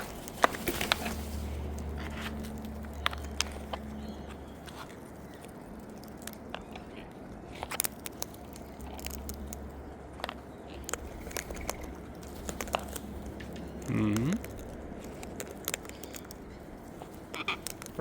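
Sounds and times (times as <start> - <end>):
birds cracking seed: 0.0 - 18.0.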